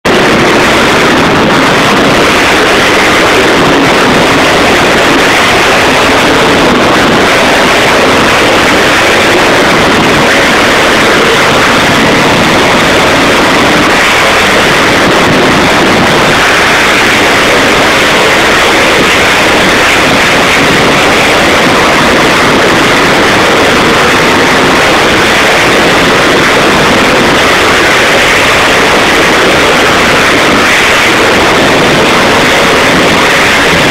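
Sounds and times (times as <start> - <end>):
monster truck engines roaring: 0.0 - 33.9.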